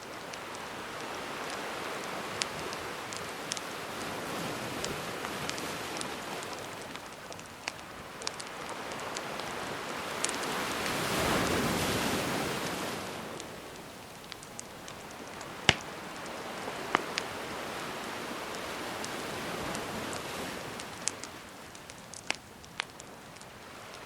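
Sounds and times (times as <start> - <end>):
crackling wood fire: 0.0 - 24.0
sea waves washing on shore: 0.0 - 24.0.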